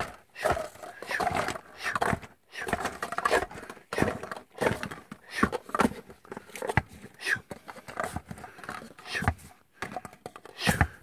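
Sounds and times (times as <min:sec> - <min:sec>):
paper cups stacking clatter: 0:00.0 - 0:11.0.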